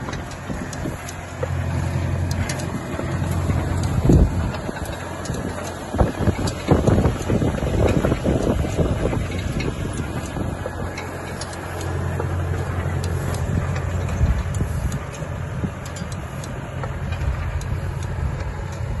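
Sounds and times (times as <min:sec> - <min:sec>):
light mechanical ticks: 0:00.0 - 0:19.0
tractor engine running: 0:00.0 - 0:19.0.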